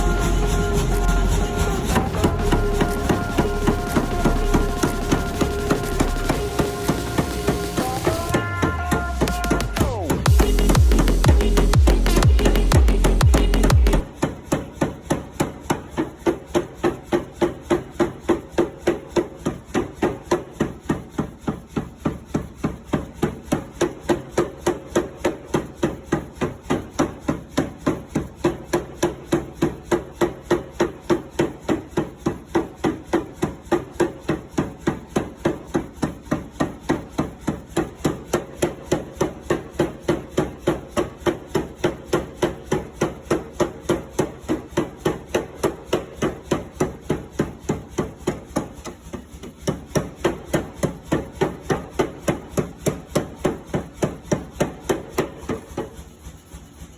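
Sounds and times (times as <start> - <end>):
hammering on hot steel: 0.0 - 56.2.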